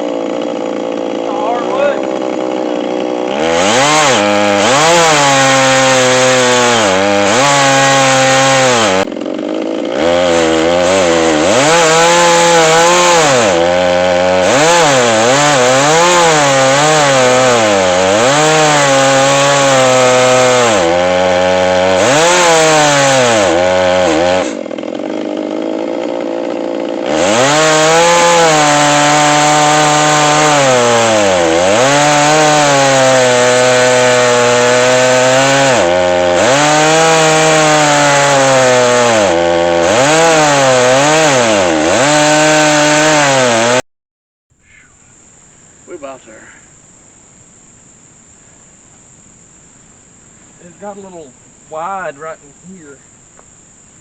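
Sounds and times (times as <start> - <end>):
chainsaw ripping a log: 0.0 - 43.8.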